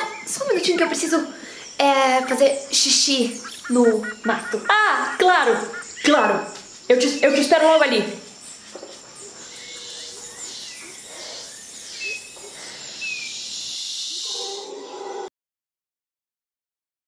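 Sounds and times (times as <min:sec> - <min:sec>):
insects hissing: 0:00.0 - 0:15.0.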